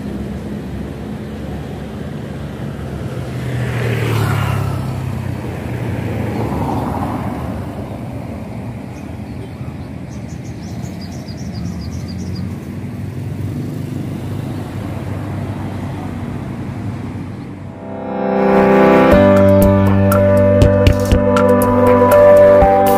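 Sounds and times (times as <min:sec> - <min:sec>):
vehicles driving past: 0:00.0 - 0:22.9.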